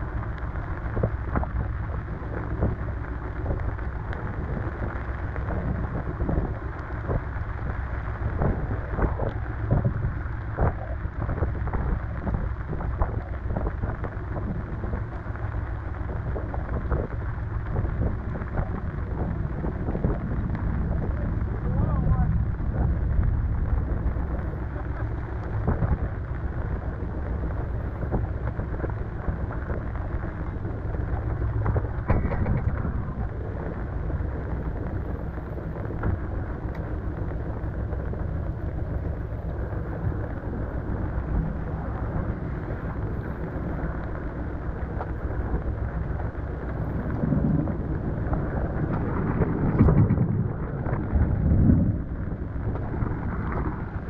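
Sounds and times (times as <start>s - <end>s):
strong wind on microphone: 0.0s - 54.0s.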